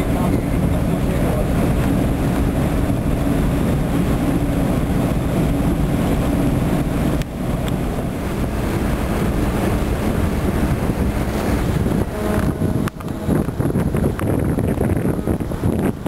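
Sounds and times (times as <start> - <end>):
boat diesel engine running: 0.0 - 16.0
wind buffeting microphone: 0.0 - 16.0.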